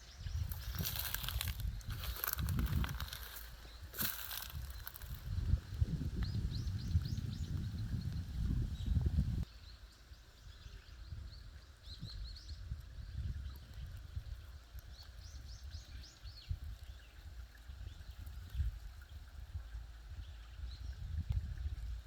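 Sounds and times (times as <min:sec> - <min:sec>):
small birds chirping: 0:00.0 - 0:19.2.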